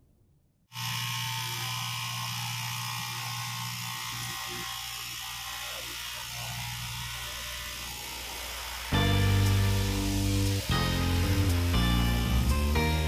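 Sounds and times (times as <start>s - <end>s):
cloth cutting machine buzzing: 0.7s - 13.0s.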